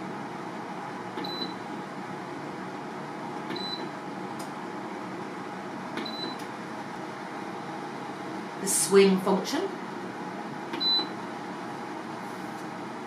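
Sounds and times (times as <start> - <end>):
dehumidifier fan running: 0.0 - 13.0.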